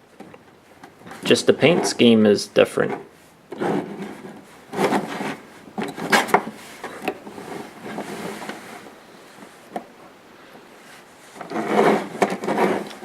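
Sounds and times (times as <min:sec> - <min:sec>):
toy trucks rubbing and scraping: 0:01.0 - 0:09.6, 0:10.8 - 0:13.0.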